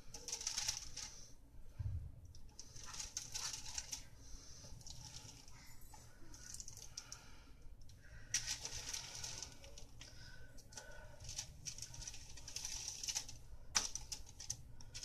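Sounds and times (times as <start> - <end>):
aluminum foil crinkling: 0.0 - 1.3, 2.5 - 7.2, 8.0 - 15.0.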